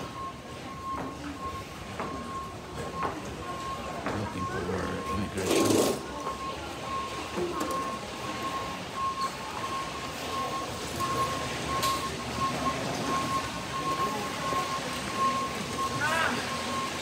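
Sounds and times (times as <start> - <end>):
crowd noise: 0.0 - 17.0
short high warning beeps: 0.0 - 17.0.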